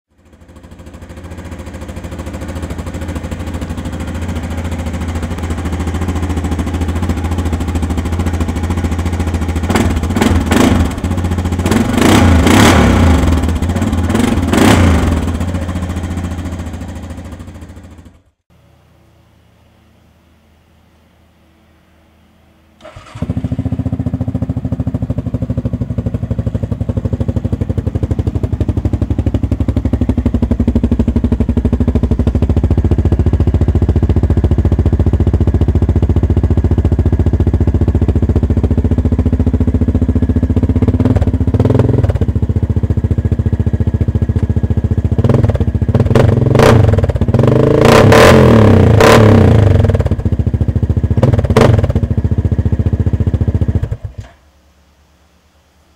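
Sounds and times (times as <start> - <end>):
atv engine idling and revving: 0.1 - 18.4, 22.8 - 54.4.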